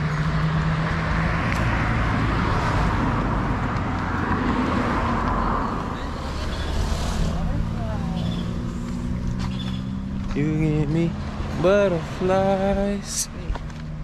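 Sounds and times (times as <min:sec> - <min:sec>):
car driving past: 0:00.0 - 0:12.4.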